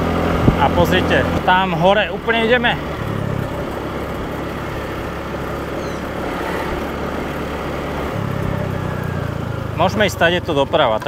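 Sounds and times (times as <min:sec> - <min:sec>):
motor scooter engine: 0:00.0 - 0:11.0
road rumble: 0:00.0 - 0:11.0.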